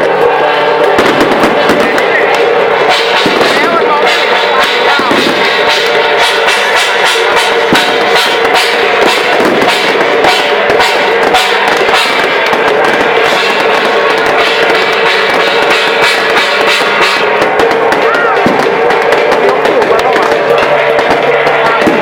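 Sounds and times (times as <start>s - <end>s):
dense steady clatter: 0.0s - 22.0s
festival drumming: 0.0s - 22.0s.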